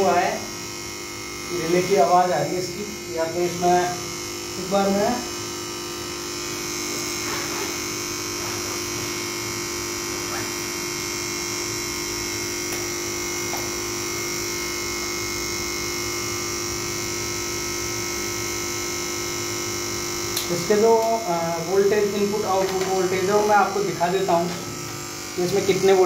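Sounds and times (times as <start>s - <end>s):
relay buzzing: 0.0s - 26.0s.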